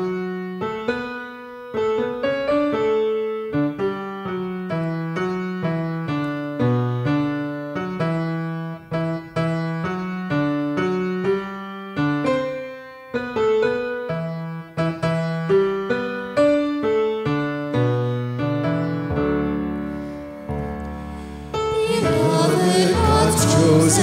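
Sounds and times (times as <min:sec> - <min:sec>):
piano playing gentle chords: 0:00.0 - 0:24.0.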